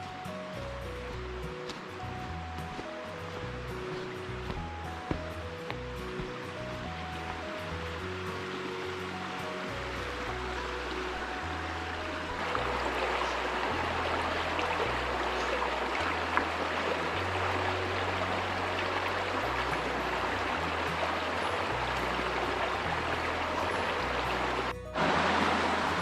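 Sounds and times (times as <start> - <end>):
background music with bass: 0.0 - 26.0
stream rushing: 0.0 - 26.0.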